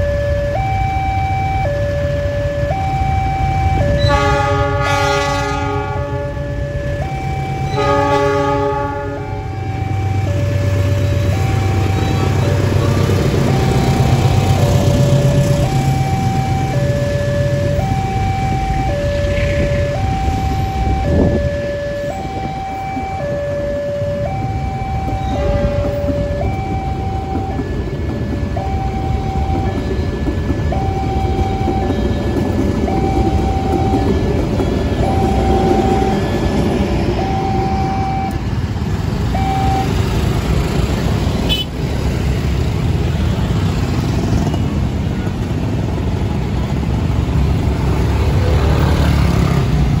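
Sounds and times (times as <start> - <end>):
level crossing warning alarm: 0.0 - 50.0
motorbike and car engines rumbling: 0.0 - 50.0.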